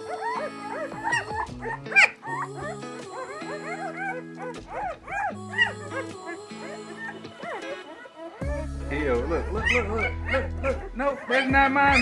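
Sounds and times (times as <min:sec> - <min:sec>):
background music with held chords: 0:00.0 - 0:12.0
puppies squeaking and whimpering: 0:00.0 - 0:12.0.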